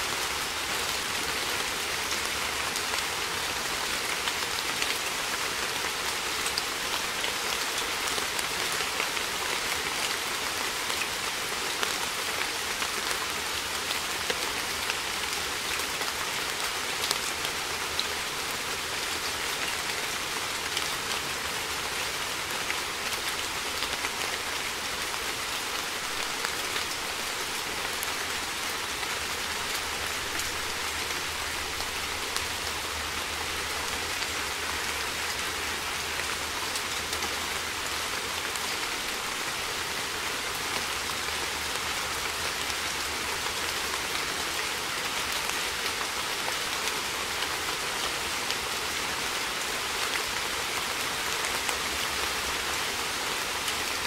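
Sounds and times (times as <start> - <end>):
steady rain with drop ticks: 0.0 - 54.0.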